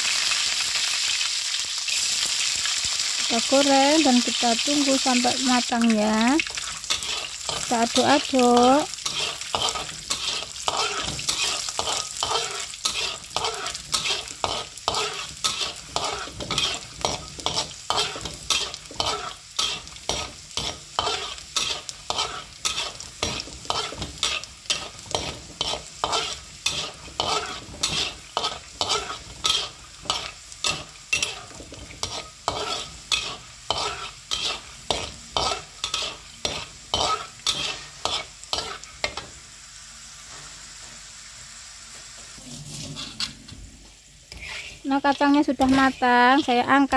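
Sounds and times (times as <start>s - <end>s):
peanuts sizzling in oil: 0.0s - 46.9s
metal spatula scraping wok: 3.4s - 39.4s, 42.3s - 46.9s.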